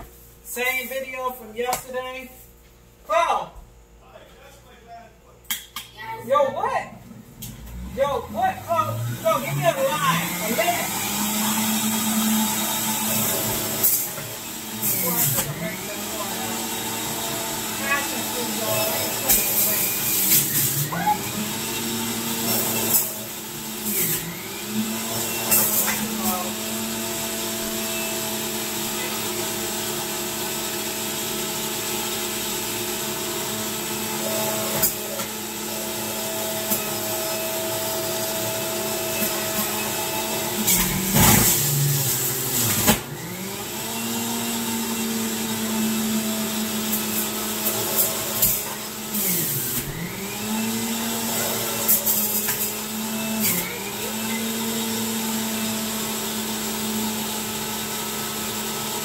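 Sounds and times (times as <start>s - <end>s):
juicer motor whine: 7.1s - 59.0s
fruit grinding in juicer: 7.4s - 59.0s.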